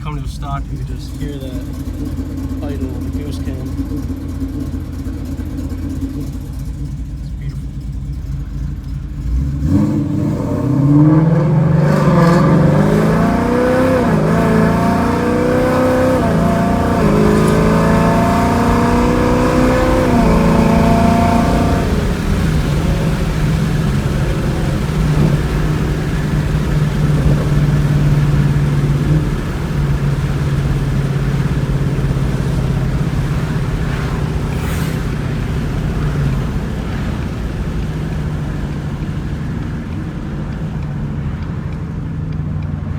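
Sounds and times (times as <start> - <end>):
car engine revving through gears: 0.0 - 42.9.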